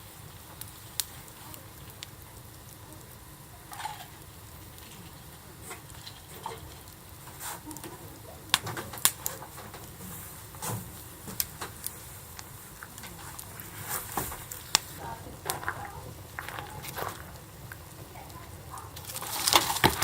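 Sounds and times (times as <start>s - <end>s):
burning wood popping: 0.0s - 20.0s
campfire crackling: 0.0s - 20.0s.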